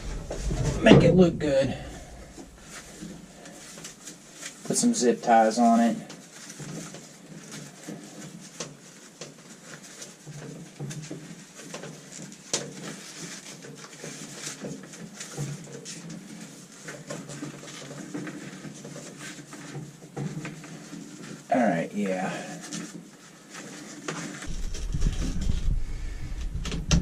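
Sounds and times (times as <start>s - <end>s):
wires rustling: 0.0s - 27.0s.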